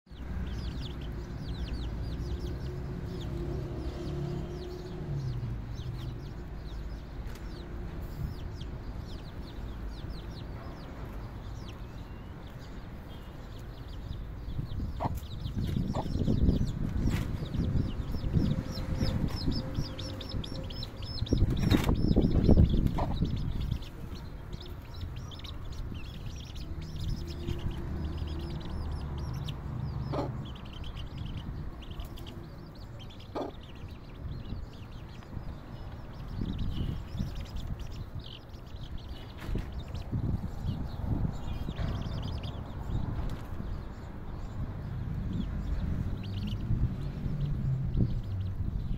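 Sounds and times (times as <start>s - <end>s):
chicks peeping: 0.1s - 48.9s
low rumbling noise: 0.1s - 48.9s.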